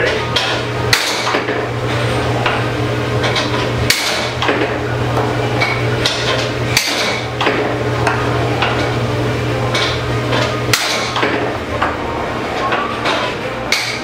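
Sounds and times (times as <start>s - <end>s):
air blower humming: 0.0s - 14.0s.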